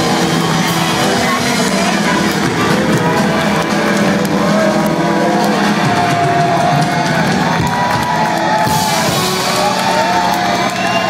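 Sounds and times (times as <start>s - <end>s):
crowd cheering: 0.0s - 11.0s
live rock band playing: 0.0s - 11.0s.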